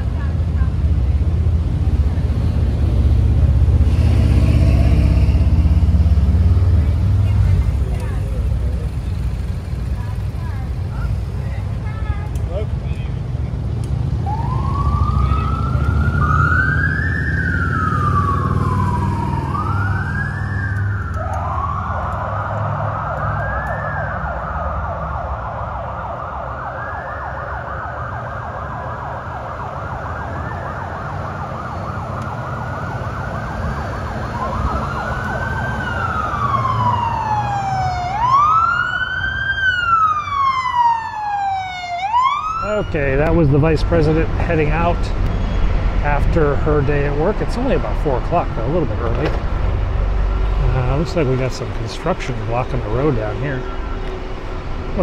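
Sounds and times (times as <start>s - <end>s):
police sirens wailing: 0.0s - 55.0s
vehicle engines rumbling: 0.0s - 55.0s.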